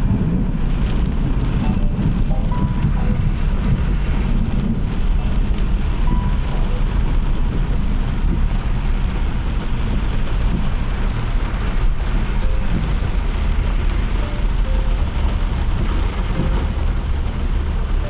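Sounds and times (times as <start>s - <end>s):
steady rain: 0.0s - 18.0s
traffic on wet road: 0.0s - 18.0s.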